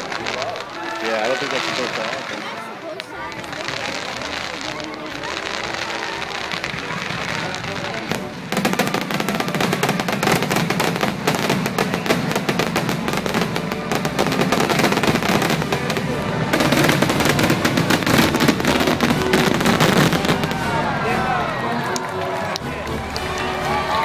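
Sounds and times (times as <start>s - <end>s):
fireworks crackling and banging: 0.0s - 24.0s.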